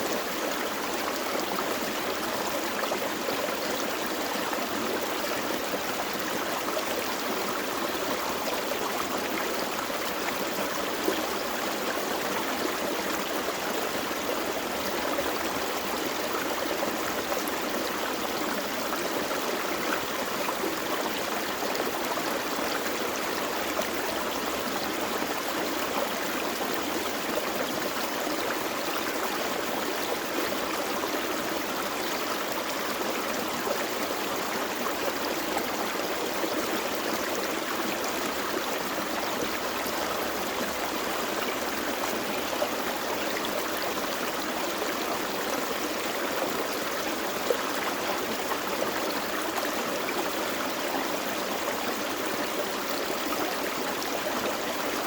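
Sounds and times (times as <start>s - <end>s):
creek running over rocks: 0.0s - 55.0s.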